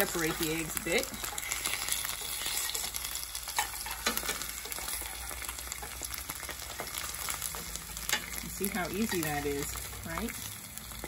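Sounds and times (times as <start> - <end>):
spatula scraping a pan: 0.0 - 9.9
eggs sizzling in a pan: 0.0 - 11.0.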